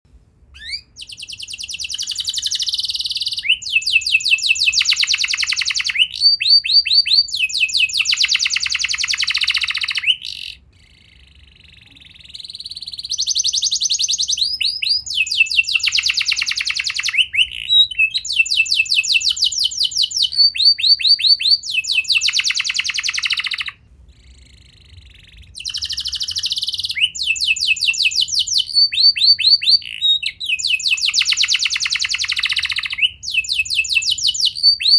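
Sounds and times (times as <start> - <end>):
canary singing trills: 0.5 - 34.9.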